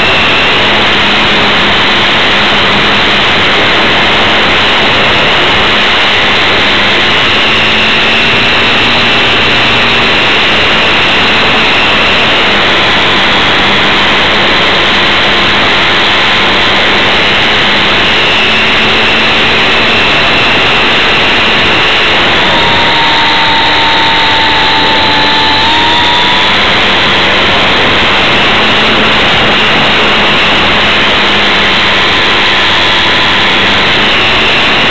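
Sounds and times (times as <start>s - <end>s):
model airplane motor and propeller: 0.0s - 34.9s
wind rushing: 0.0s - 34.9s.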